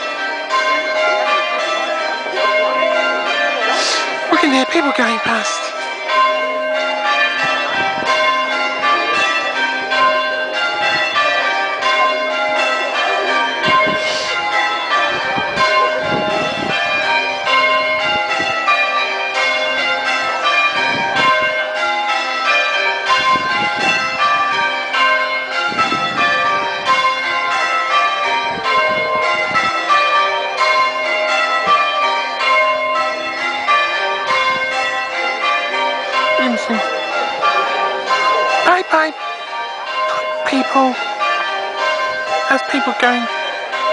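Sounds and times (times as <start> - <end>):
church bells change ringing: 0.0 - 43.9.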